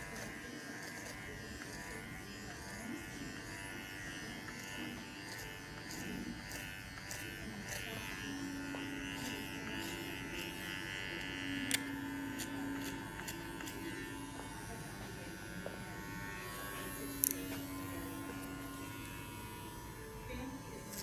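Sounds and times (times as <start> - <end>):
hair clippers buzzing: 0.0 - 21.0.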